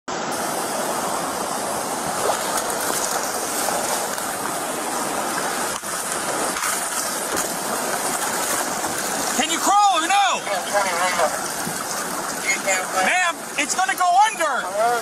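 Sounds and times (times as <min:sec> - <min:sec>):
floodwater rushing: 0:00.1 - 0:15.0.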